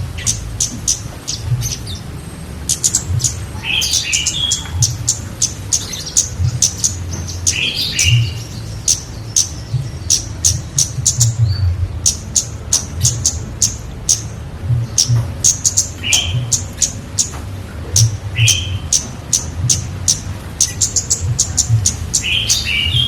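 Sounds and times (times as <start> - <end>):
bird warbling: 0.0 - 23.0
low hum: 0.0 - 23.0
songbird chirping: 0.0 - 23.0.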